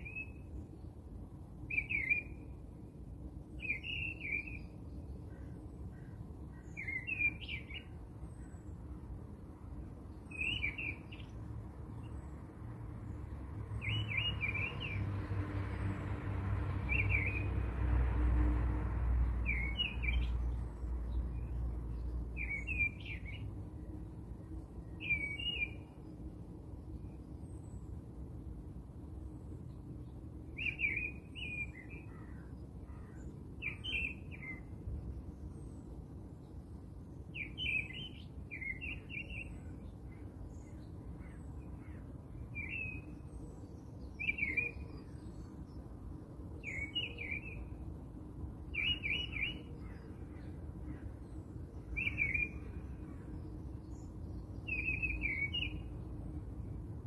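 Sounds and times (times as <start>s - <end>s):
small birds chirping: 0.0s - 2.6s, 3.5s - 9.1s, 9.7s - 15.1s, 16.7s - 17.5s, 19.3s - 28.1s, 29.2s - 57.0s
low background noise: 0.0s - 57.0s.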